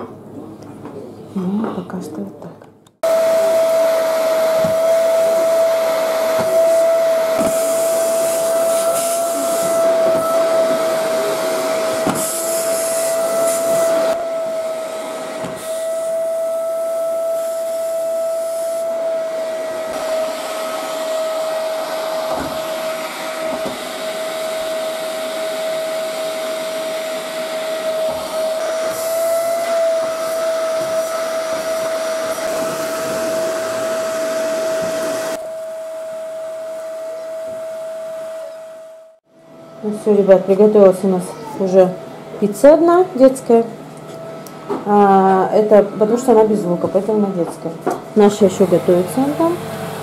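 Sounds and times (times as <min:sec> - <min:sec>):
vacuum cleaner running: 0:03.0 - 0:50.0.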